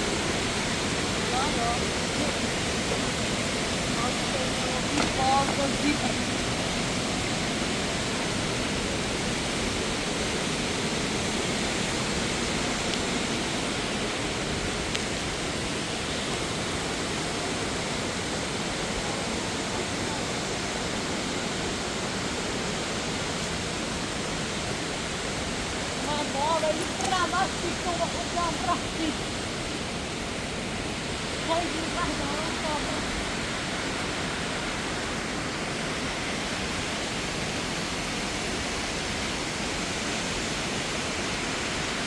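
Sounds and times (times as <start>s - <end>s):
rushing water: 0.0s - 42.0s.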